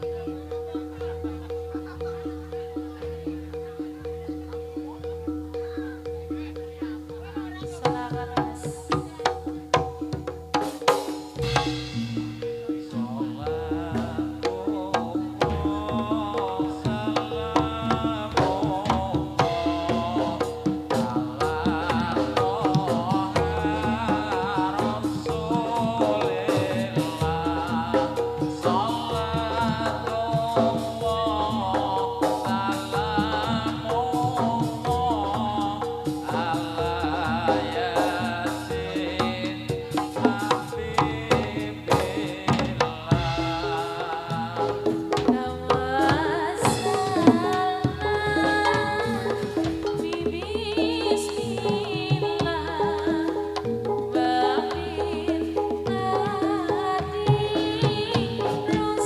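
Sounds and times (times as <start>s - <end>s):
wavering melodic line: 0.0s - 55.3s
drums: 0.0s - 59.0s
gamelan ensemble: 0.0s - 59.0s
struck metal percussion: 0.0s - 59.0s.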